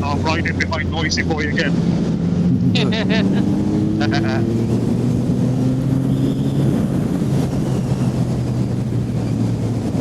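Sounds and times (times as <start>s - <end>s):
motorcycle engine cruising: 0.0s - 10.0s
wind rushing over microphone: 0.0s - 10.0s.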